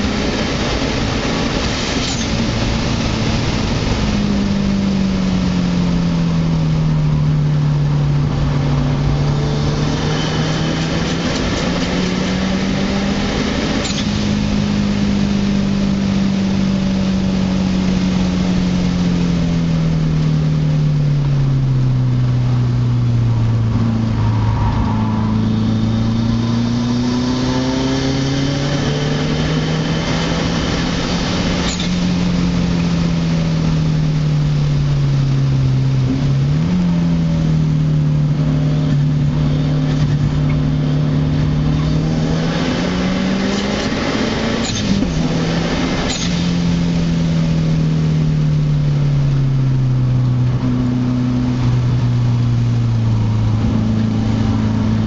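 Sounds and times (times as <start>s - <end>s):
car engine revving under load: 0.0s - 55.0s
tyre and road noise: 0.0s - 55.0s.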